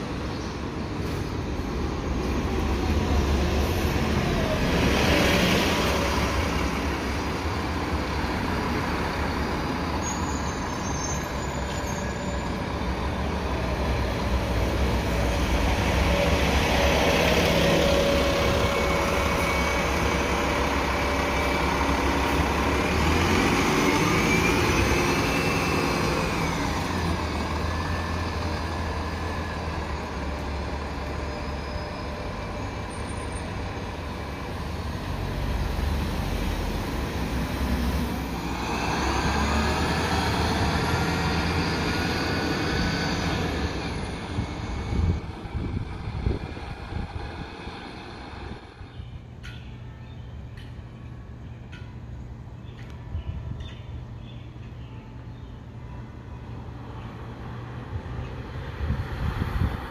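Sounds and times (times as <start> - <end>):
bus engine accelerating with whine: 0.0 - 49.2, 56.7 - 59.9
passing vehicle whine: 0.0 - 49.9, 55.2 - 59.9.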